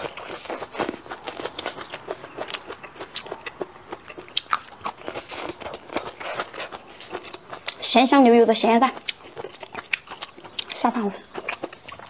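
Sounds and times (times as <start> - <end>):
crunching of crisp food: 0.0 - 12.0.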